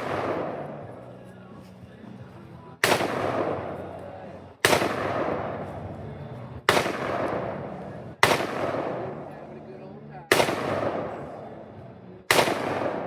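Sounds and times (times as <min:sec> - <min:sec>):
gunshots with long echo: 0:00.0 - 0:01.3, 0:02.8 - 0:09.7, 0:10.3 - 0:13.0.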